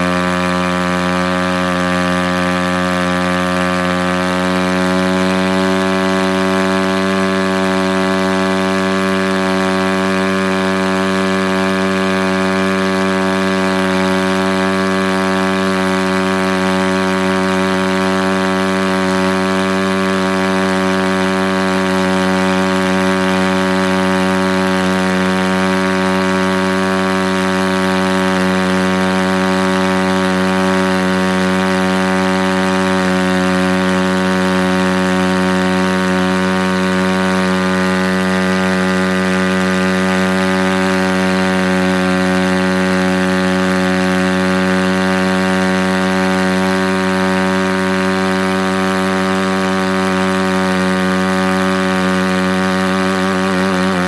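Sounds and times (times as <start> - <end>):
motorbike engine revving steadily: 0.0 - 54.0
tire spinning on asphalt: 0.0 - 54.0.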